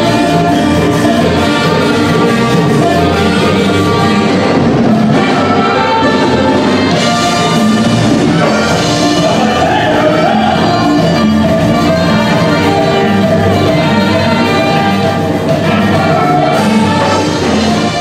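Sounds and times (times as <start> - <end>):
dance music with horns: 0.0 - 18.0.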